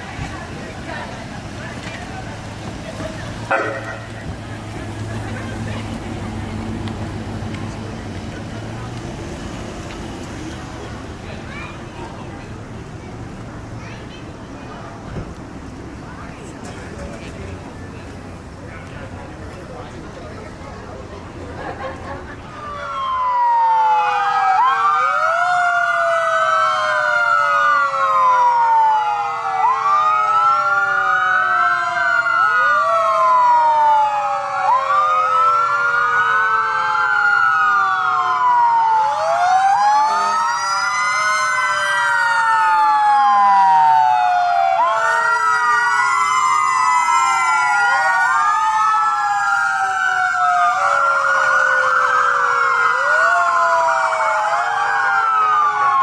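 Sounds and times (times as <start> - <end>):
emergency sirens wailing: 0.0 - 56.0.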